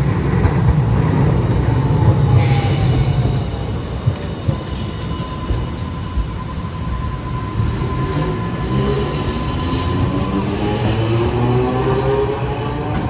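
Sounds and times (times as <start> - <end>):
tram rumble and whine: 0.0 - 13.0
tram wheels squealing: 1.7 - 13.0.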